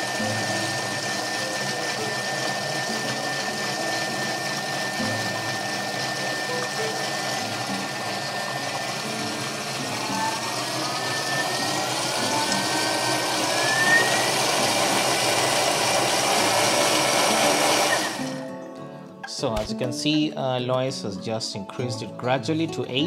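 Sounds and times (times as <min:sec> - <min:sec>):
food processor whirring: 0:00.0 - 0:18.6.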